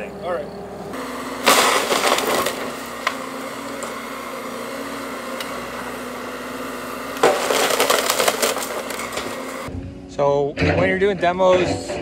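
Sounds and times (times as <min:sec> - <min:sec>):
heavy equipment engine running: 0:00.0 - 0:10.1.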